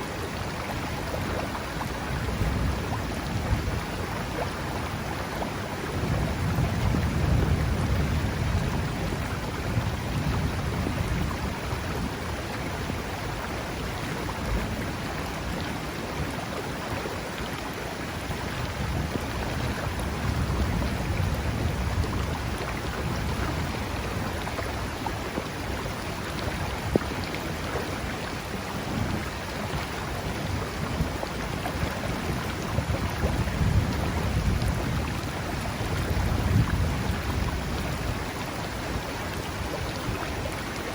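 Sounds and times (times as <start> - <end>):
river flowing: 0.0 - 40.9
steady rain: 0.0 - 40.9.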